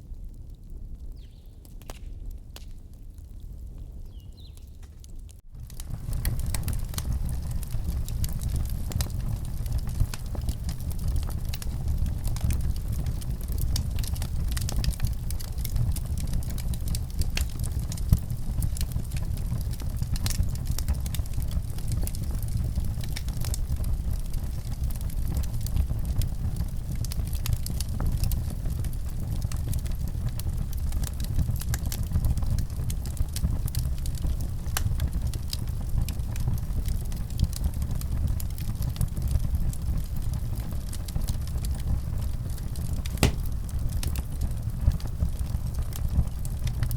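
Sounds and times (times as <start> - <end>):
fire crackling and popping: 0.0 - 46.9
fireplace fire rumbling: 1.8 - 46.9.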